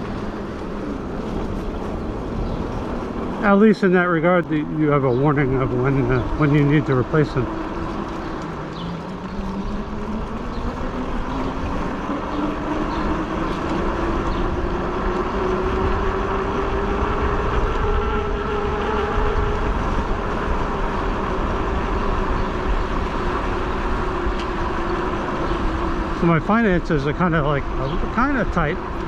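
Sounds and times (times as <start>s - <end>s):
electric bike drive whine: 0.0s - 29.0s.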